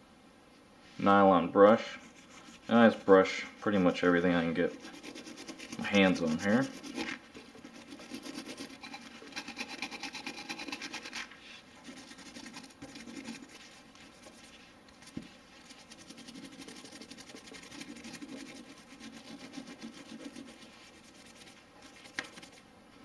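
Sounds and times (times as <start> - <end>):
brush scrubbing pistol barrel: 1.8 - 22.6.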